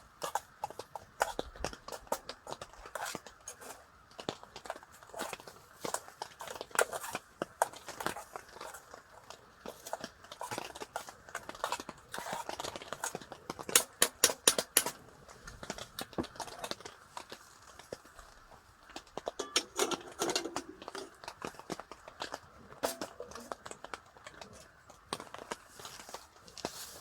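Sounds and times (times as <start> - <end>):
rustling and crinkling: 0.0 - 27.0.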